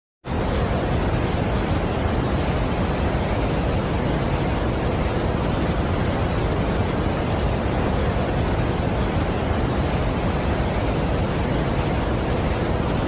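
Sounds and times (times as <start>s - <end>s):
waterfall rushing: 0.3s - 13.0s.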